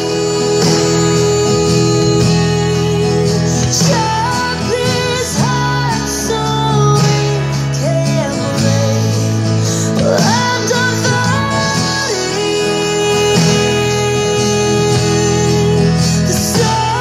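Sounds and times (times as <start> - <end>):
acoustic guitar strumming: 0.0 - 17.0
held bass notes: 0.0 - 17.0.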